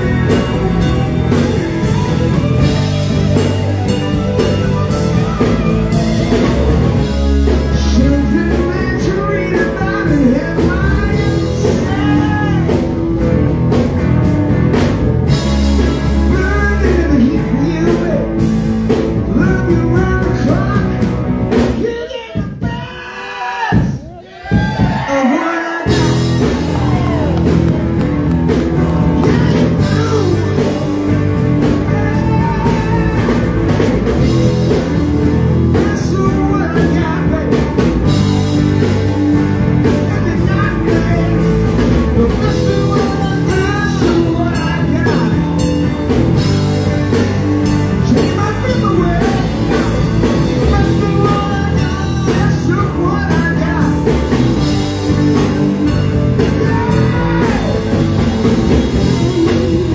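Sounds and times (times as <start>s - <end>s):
man singing: 0.0s - 2.7s, 6.3s - 13.3s, 15.3s - 24.1s, 24.8s - 27.6s, 28.9s - 59.9s
rock band playing: 0.0s - 59.9s.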